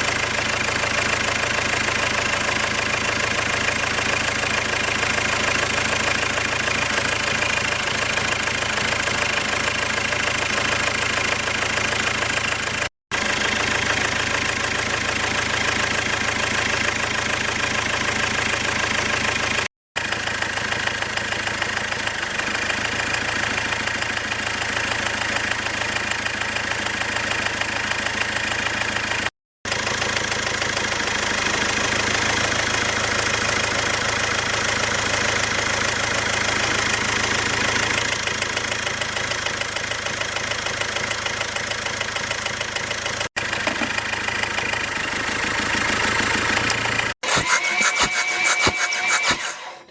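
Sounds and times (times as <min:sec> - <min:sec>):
engine idling with rapid knock: 0:00.0 - 0:49.9.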